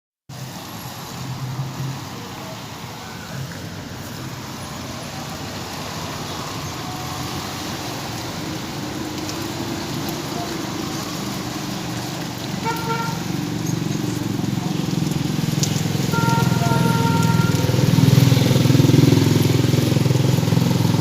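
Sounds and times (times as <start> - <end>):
passing vehicles hum: 0.3 - 21.0
rain hiss on wet road: 0.3 - 21.0.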